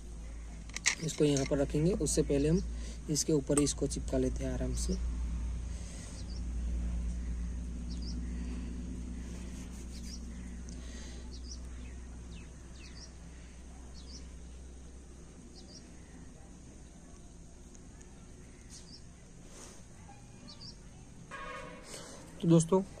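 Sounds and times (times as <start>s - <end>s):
small birds chirping: 0.0s - 21.3s.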